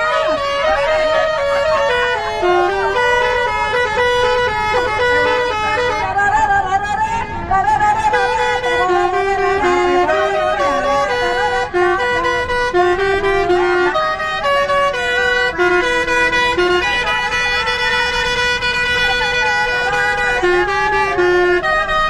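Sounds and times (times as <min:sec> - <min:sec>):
bus melody horn playing: 0:00.0 - 0:22.0.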